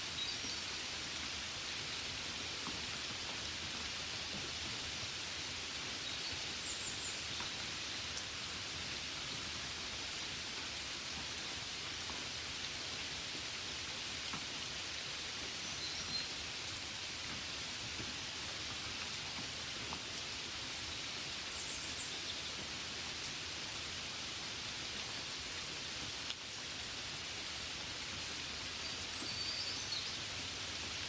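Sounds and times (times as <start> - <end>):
rain falling on a window: 0.1 - 31.0.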